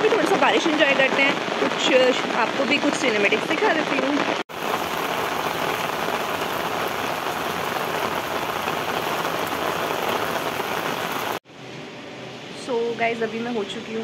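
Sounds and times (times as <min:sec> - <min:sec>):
heavy rain splashing on water: 0:00.0 - 0:11.4.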